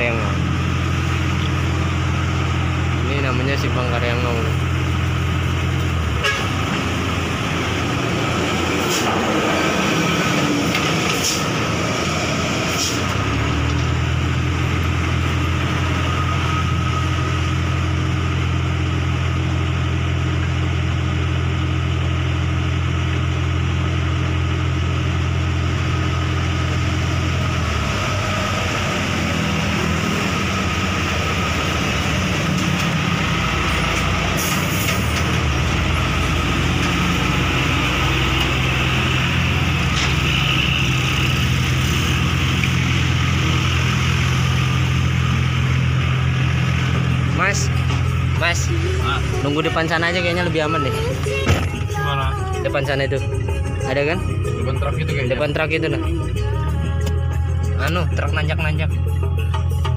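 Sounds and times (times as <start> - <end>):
passing vehicle: 0.0 - 59.9
vehicle engine idling: 0.0 - 59.9.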